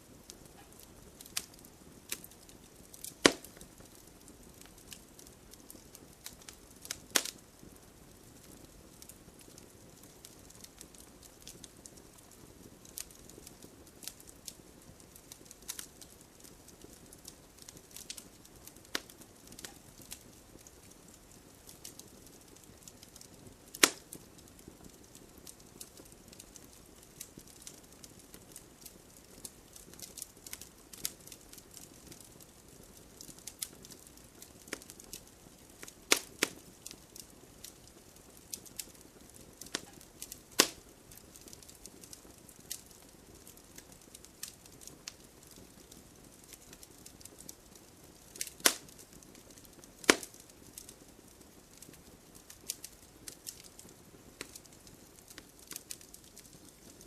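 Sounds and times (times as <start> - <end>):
campfire crackling: 0.0 - 57.0
fire popping: 0.0 - 57.0
low hiss: 0.0 - 57.0.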